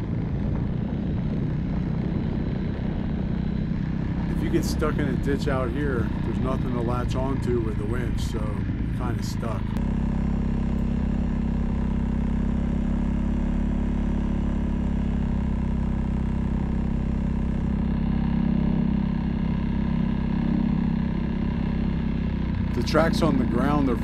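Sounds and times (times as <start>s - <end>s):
off-road vehicle engine droning: 0.0s - 24.0s.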